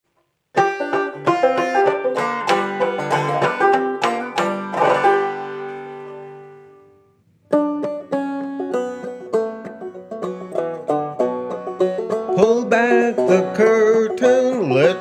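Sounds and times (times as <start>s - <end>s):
clawhammer banjo picking: 0.5s - 6.8s, 7.5s - 15.0s.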